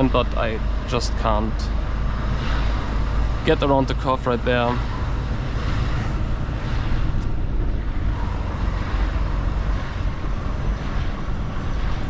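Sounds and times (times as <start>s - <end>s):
road noise: 0.0s - 12.0s
truck diesel engine running: 0.0s - 12.0s.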